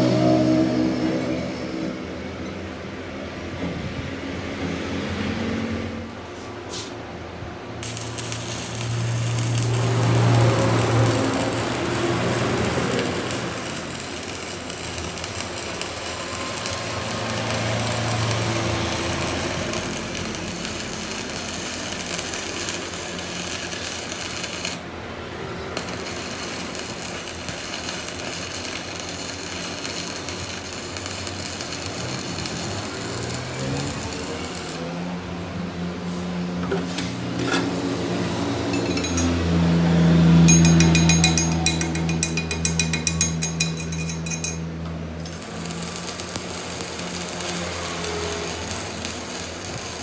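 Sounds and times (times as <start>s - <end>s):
power tool working metal: 7.8s - 24.9s, 25.6s - 35.3s, 36.6s - 50.0s.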